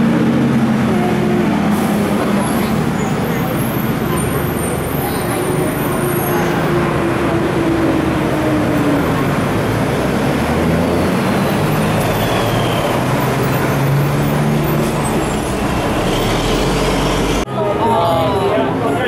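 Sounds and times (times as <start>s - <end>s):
road noise: 0.0s - 19.0s
vehicle engines running: 0.0s - 19.0s.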